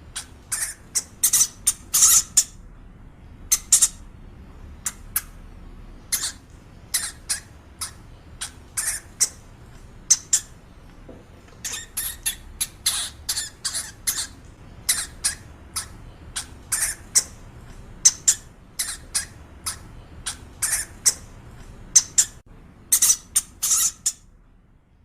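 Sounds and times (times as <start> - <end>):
hamster squeaking: 0.0 - 2.6, 3.5 - 4.1, 6.0 - 10.6, 11.5 - 24.3.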